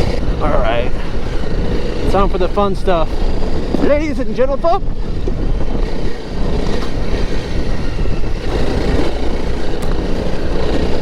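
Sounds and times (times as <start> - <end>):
motorcycle engine running: 0.0 - 11.0
rough rushing noise: 0.0 - 11.0.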